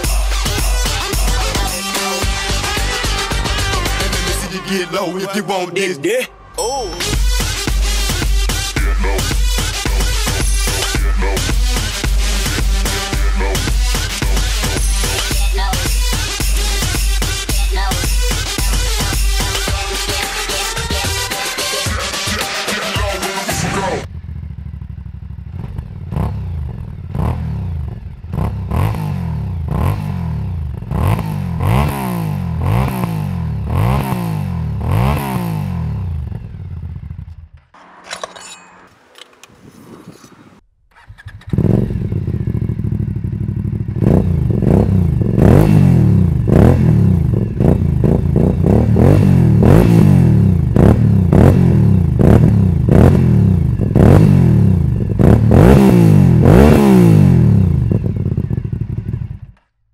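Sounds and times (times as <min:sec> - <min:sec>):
motorcycle engine revving: 0:00.0 - 0:04.4, 0:07.1 - 0:21.6, 0:23.6 - 0:38.2, 0:40.9 - 0:59.7.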